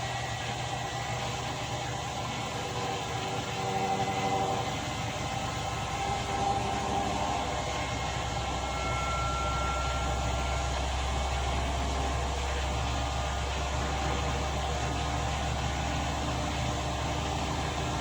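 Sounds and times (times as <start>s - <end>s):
faint thin whine: 0.0s - 18.0s
low hum: 0.0s - 18.0s
washing machine rumbling: 0.0s - 18.0s.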